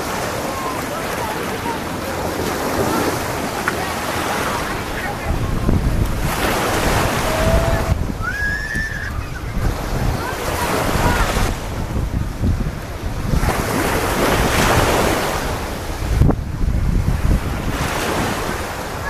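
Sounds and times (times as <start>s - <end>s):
waves washing up a beach: 0.0s - 19.0s
wind buffeting microphone: 0.0s - 19.0s.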